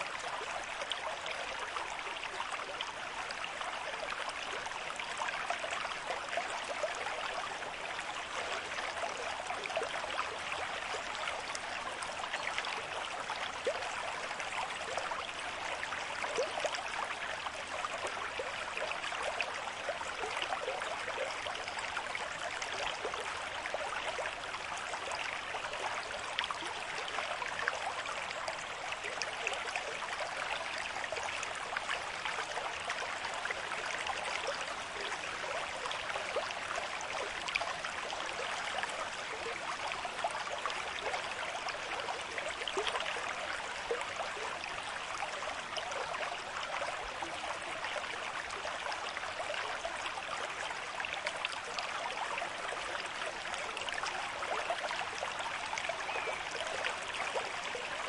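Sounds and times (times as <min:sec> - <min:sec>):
stream water over rocks: 0:00.0 - 0:58.0.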